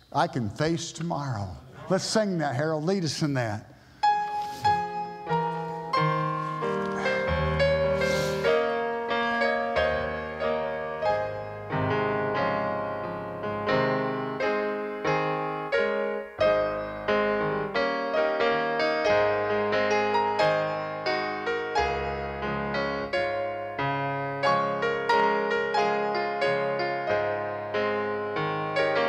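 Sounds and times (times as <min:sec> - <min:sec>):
solo piano playing slow chords: 0:04.0 - 0:29.0.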